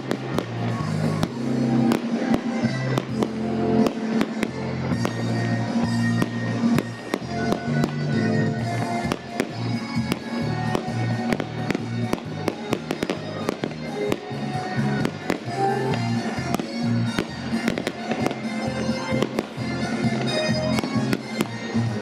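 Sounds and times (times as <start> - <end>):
fireworks bangs and crackles: 0.0 - 22.0
music with steady melody: 0.0 - 22.0.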